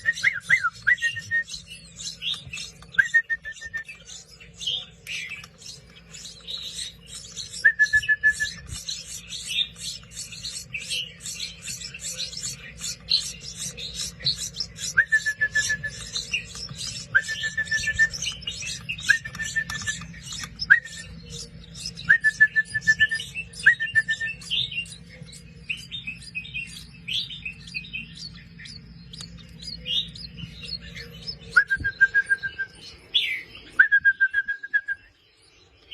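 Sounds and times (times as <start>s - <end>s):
chicks chirping: 0.0s - 34.0s.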